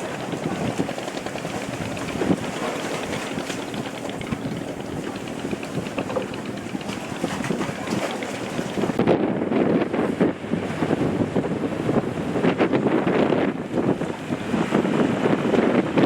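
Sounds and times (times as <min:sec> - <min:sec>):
fishing boat engine running: 0:00.0 - 0:16.0
wind buffeting microphone: 0:00.0 - 0:16.0.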